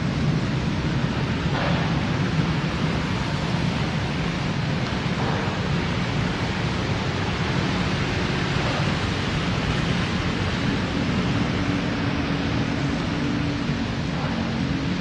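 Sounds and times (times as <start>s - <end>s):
heavy rain falling: 0.0s - 15.0s
low engine hum: 0.0s - 15.0s.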